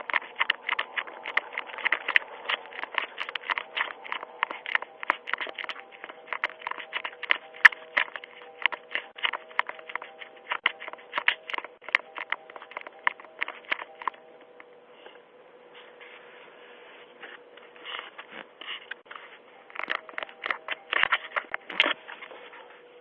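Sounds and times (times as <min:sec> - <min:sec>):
tapping and scraping on microphone: 0:00.0 - 0:14.2, 0:17.2 - 0:22.7
faint steady hum: 0:00.0 - 0:23.0.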